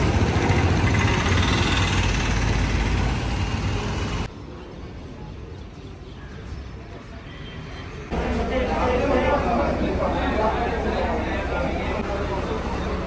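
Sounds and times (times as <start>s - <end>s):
street ambience: 0.0s - 13.0s.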